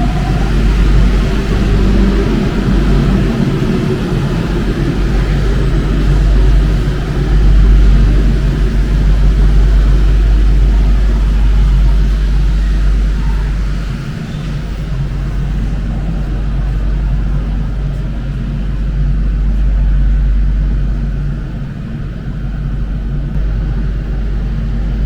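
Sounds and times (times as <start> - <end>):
metro train rumbling: 0.0 - 25.0.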